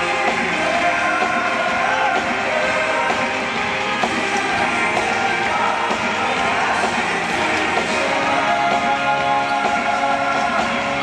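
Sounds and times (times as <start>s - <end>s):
loud rock music with singing: 0.0s - 11.0s.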